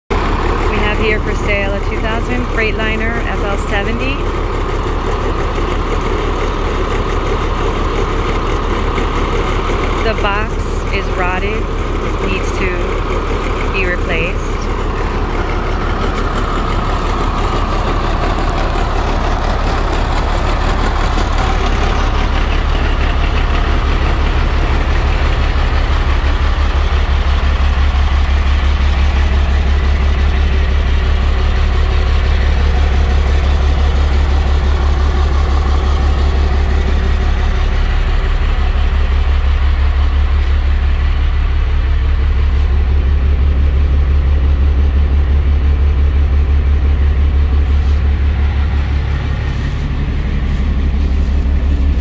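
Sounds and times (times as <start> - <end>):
diesel truck engine idling: 0.1 - 52.0.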